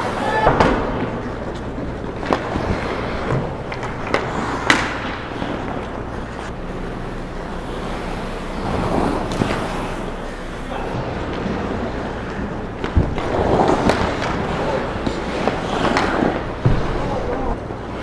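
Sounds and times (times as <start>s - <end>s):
sticks and puck clacking: 0.0s - 6.6s, 8.6s - 18.0s
low steady hum: 0.0s - 18.0s
skates scraping ice: 0.0s - 18.0s.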